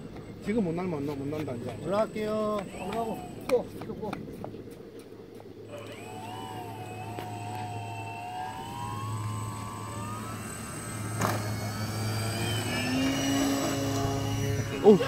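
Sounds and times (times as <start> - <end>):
electric motors and propellers whining: 0.0 - 15.0.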